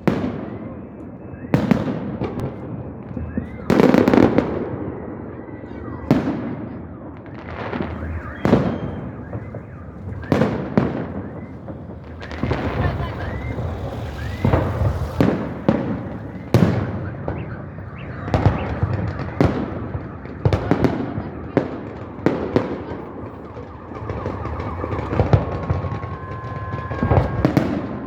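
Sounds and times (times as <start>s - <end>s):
crowd voices: 0.0s - 28.0s
fireworks bangs: 0.0s - 28.0s
fireworks crackling: 0.0s - 28.0s.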